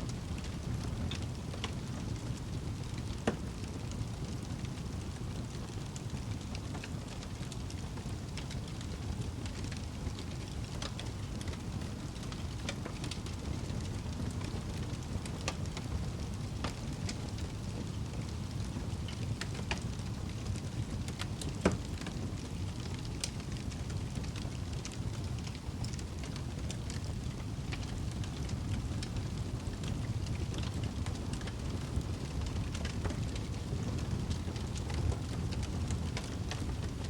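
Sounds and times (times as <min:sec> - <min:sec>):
fire crackling and popping: 0:00.0 - 0:37.0
fire flames rumbling: 0:00.0 - 0:37.0.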